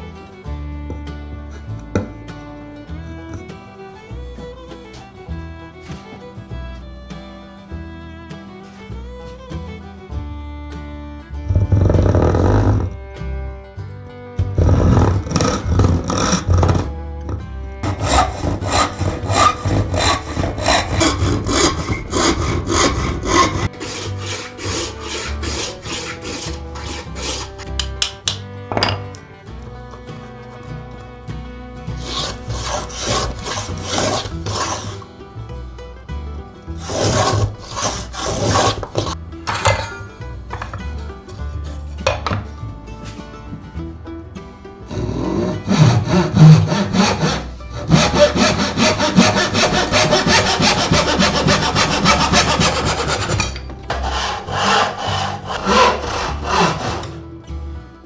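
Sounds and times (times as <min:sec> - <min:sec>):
hand saw cutting wood: 0:00.0 - 0:10.7, 0:11.5 - 0:13.4, 0:14.4 - 0:35.4, 0:36.7 - 0:40.9, 0:44.8 - 0:57.4.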